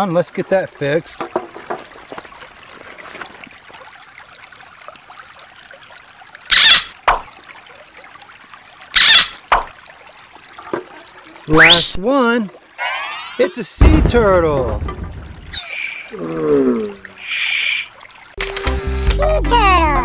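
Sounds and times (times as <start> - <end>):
stream trickling over rocks: 0.0 - 20.0.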